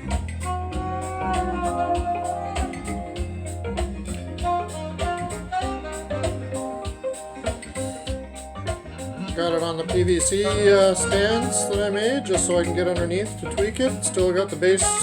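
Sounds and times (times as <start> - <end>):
music with guitar and drums: 0.0 - 15.0.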